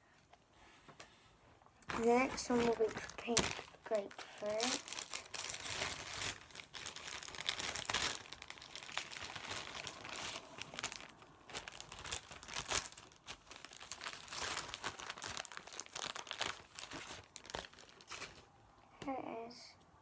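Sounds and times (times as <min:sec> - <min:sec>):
plastic packaging crinkling: 0:01.8 - 0:18.6.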